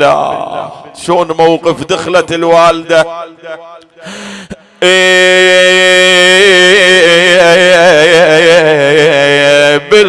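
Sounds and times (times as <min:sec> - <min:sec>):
man singing a mourning lament: 0:00.0 - 0:10.0.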